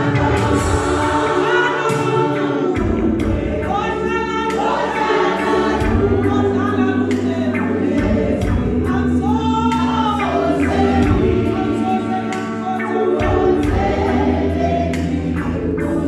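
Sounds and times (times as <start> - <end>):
low bass notes: 0.0 - 16.0
women's choir singing: 0.0 - 16.0.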